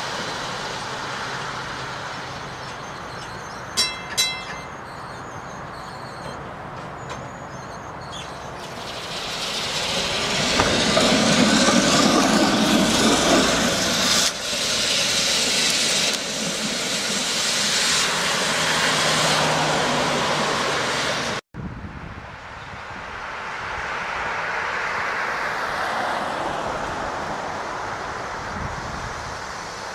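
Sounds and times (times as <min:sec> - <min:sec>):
streetcar rolling along track: 0:00.0 - 0:21.4, 0:22.2 - 0:29.9.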